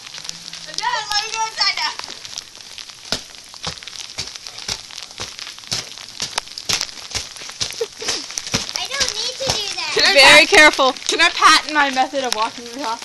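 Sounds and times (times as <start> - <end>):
footsteps crunching on icy snow: 0.0 - 13.0.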